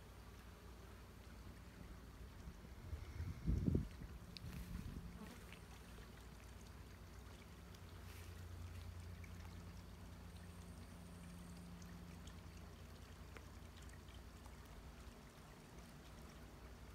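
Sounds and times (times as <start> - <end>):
low steady rumble: 0.0 - 16.9
soft hiss: 0.0 - 16.9.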